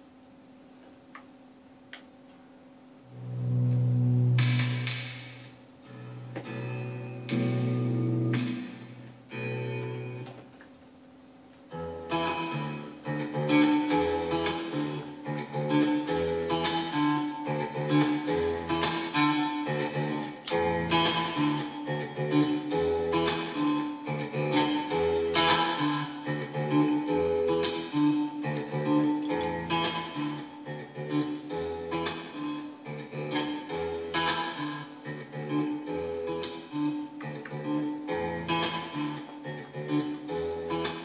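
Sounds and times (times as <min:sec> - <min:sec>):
electric guitar with reverb: 0:03.0 - 0:10.6, 0:11.7 - 0:41.0.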